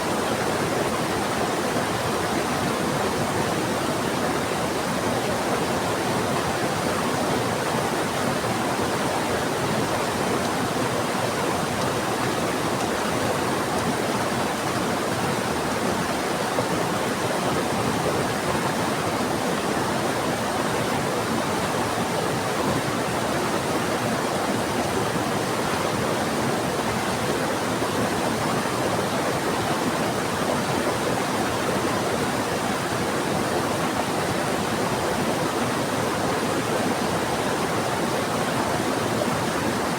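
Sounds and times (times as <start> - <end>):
fast-flowing river: 0.0 - 39.9.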